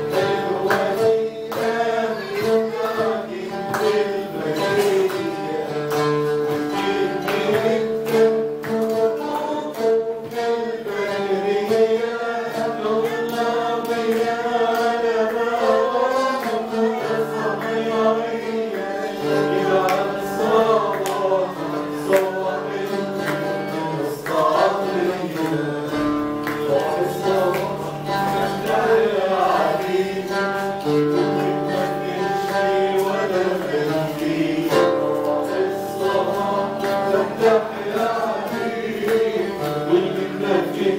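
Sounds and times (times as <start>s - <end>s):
man singing: 0.0s - 40.9s
oud plucking: 0.0s - 40.9s.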